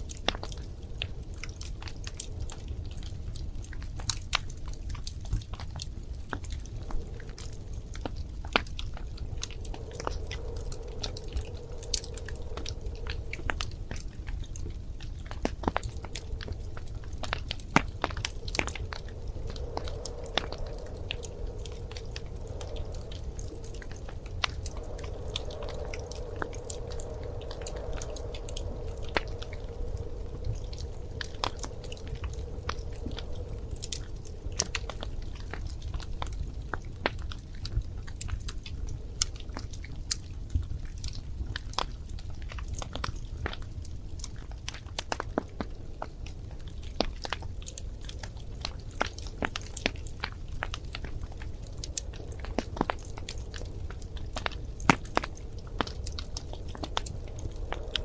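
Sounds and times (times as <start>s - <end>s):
burning logs popping: 0.0s - 58.0s
faint hiss: 0.0s - 58.0s
low rumble of flames: 0.0s - 58.0s.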